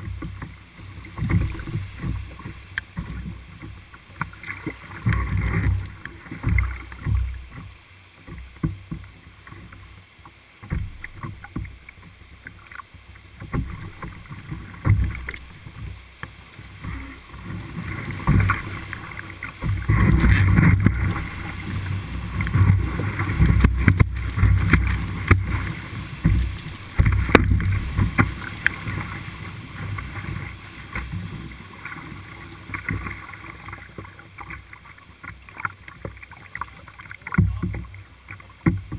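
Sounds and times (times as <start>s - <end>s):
paddle strokes: 0.0s - 38.9s
water slapping boat hull: 0.0s - 38.9s
whitewater rushing and splashing: 0.0s - 38.9s.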